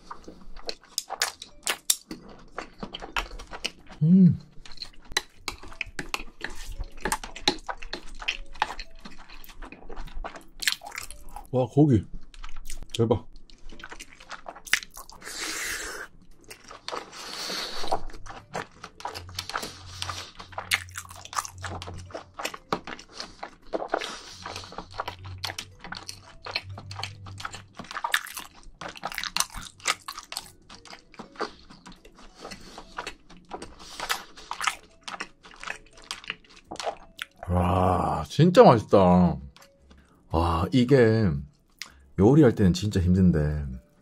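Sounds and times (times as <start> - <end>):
wet chewing mouth sounds: 0.0 - 11.5, 12.1 - 37.9, 41.5 - 42.1.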